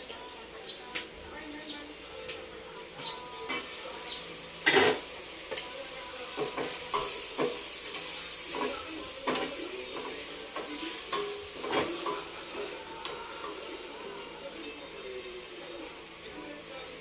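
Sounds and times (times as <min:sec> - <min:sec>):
food sizzling in hot oil: 0:02.0 - 0:17.0.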